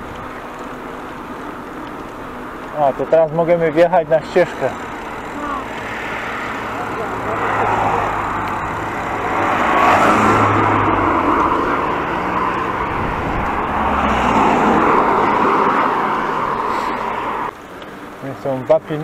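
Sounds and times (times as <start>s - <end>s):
cars passing on road: 0.0s - 19.0s.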